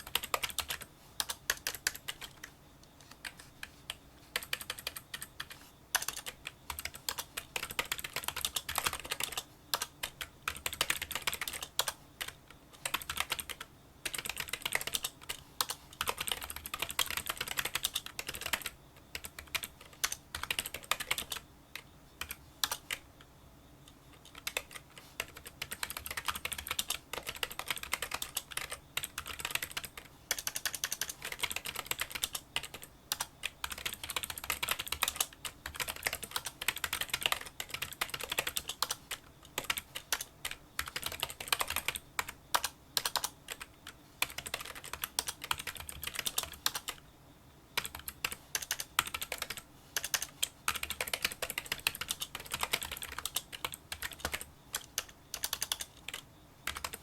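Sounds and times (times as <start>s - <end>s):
fast keyboard typing: 0.0s - 23.1s, 24.1s - 47.0s, 47.8s - 57.0s.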